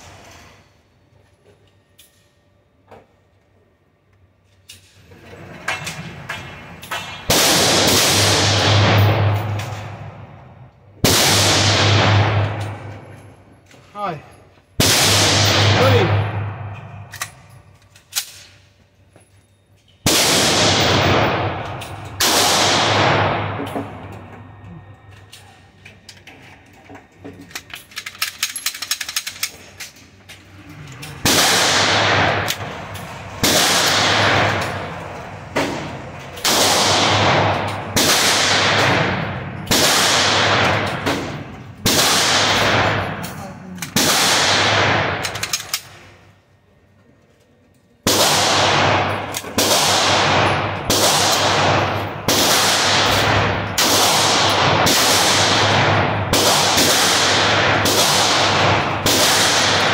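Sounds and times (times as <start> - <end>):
pistol shots echoing indoors: 5.8 - 13.8, 14.8 - 18.7, 19.5 - 30.3, 31.0 - 46.6, 48.0 - 59.9.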